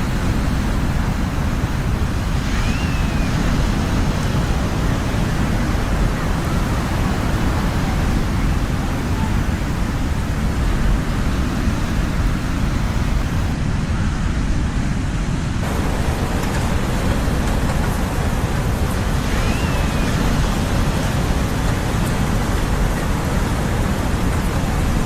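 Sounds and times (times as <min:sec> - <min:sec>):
ocean surf roaring: 0:00.0 - 0:25.0.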